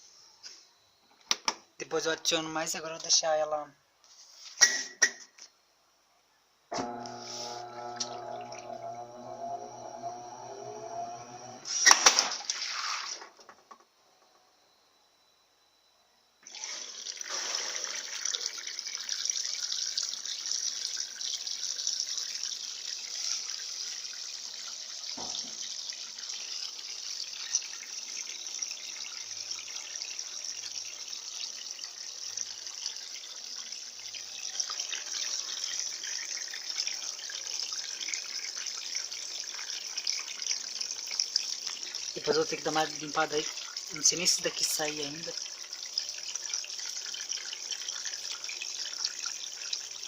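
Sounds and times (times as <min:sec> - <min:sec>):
water gushing into washing machine: 0:06.8 - 0:13.4, 0:16.4 - 0:50.0.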